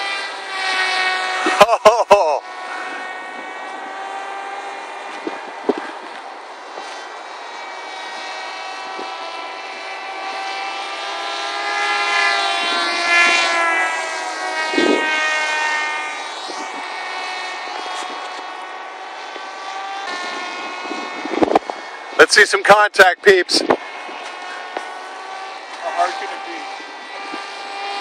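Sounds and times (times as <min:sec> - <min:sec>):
model plane motors whining: 0:00.0 - 0:28.0.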